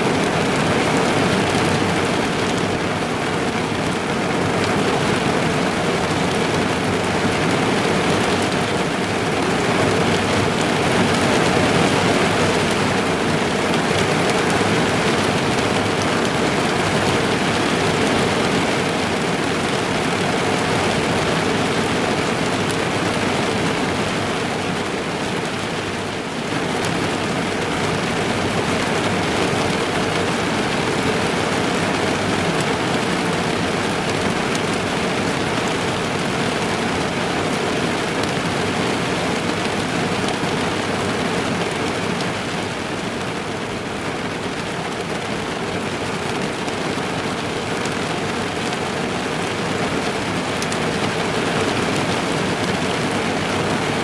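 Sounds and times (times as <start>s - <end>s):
heavy rain drumming on car roof: 0.0s - 54.0s.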